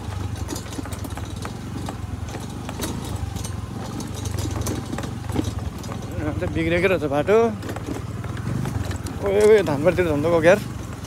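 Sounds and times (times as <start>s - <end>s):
knocks and rattles on rough road: 0.0s - 11.0s
scooter engine running: 0.0s - 11.0s.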